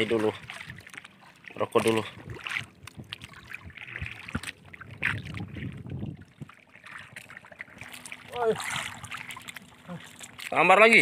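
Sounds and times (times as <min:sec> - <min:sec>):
water lapping against canoe: 0:00.0 - 0:11.0.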